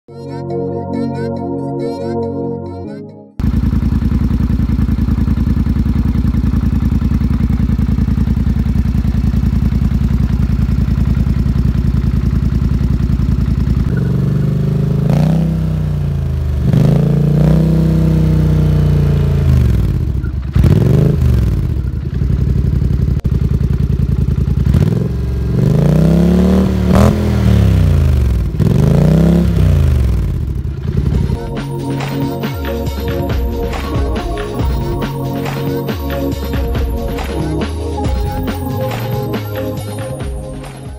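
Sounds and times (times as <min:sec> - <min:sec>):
engine idling and revving: 0:03.4 - 0:40.9.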